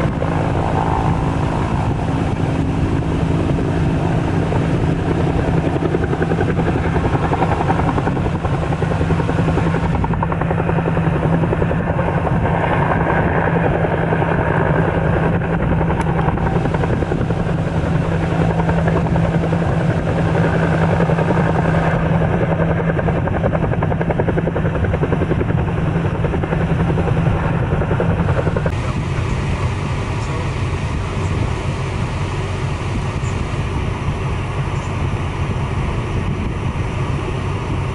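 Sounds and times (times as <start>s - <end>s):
helicopter rotor chopping: 0.0s - 37.9s.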